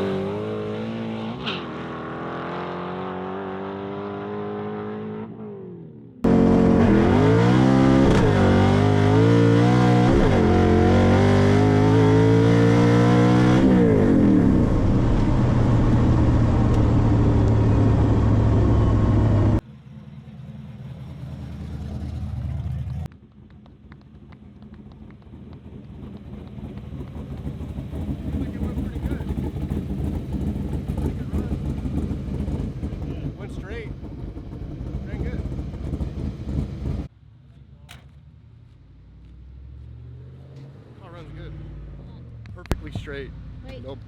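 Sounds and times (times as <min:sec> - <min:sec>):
car engine accelerating hard: 0:00.0 - 0:23.1, 0:24.5 - 0:37.1.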